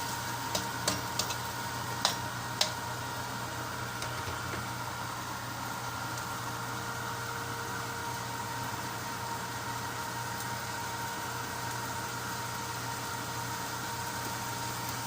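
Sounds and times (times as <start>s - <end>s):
mechanical hum with hiss: 0.0s - 15.0s.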